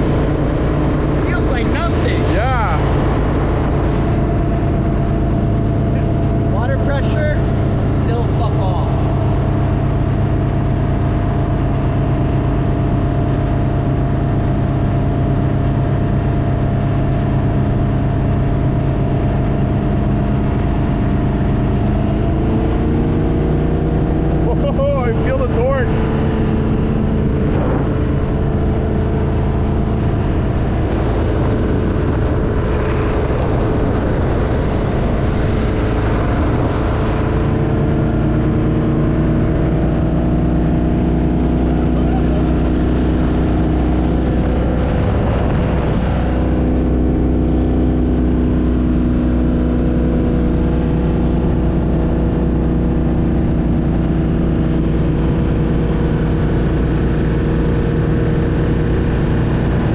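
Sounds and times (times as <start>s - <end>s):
speedboat engine running: 0.0s - 59.9s.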